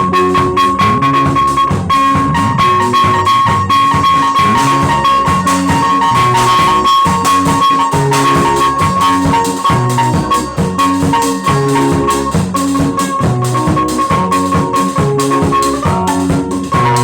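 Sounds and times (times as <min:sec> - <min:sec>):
drums steady beat: 0:00.0 - 0:17.0
repeating bass line: 0:00.0 - 0:17.0
steady high tone: 0:00.0 - 0:17.0.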